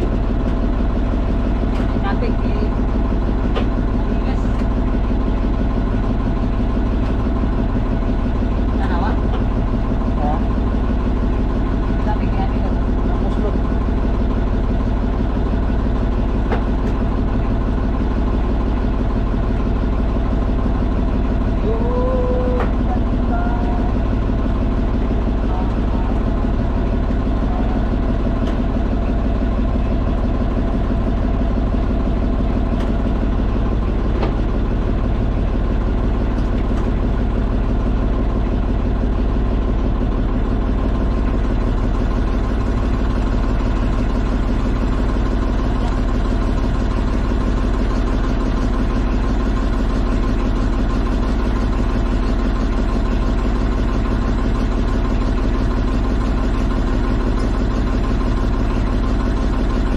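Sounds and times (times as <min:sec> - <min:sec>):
boat engine running steadily: 0:00.0 - 0:59.9.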